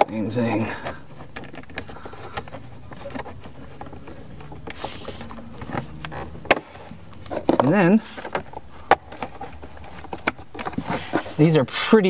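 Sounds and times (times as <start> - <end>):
plastic tool scraping and prying: 0.0 - 11.9.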